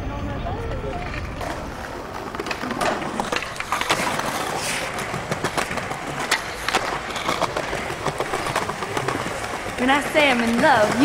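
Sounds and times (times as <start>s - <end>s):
skateboard wheels rolling on concrete: 0.0s - 11.0s
skateboard clacks popping and landing: 0.9s - 11.0s.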